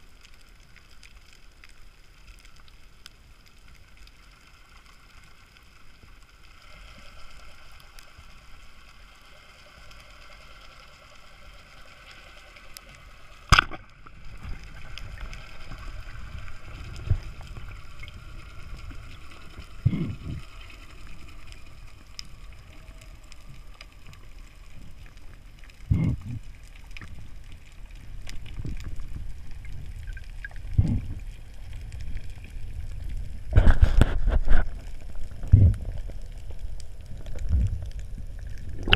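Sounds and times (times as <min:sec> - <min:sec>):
underwater rumble and hiss: 0:00.0 - 0:38.9.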